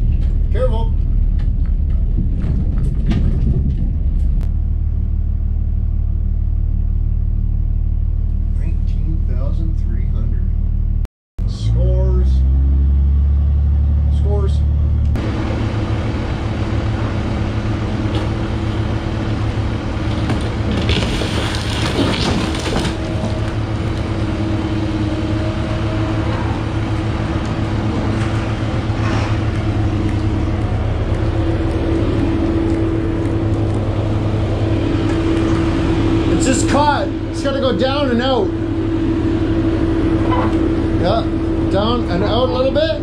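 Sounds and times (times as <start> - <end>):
material handler engine drone: 0.0 - 43.0.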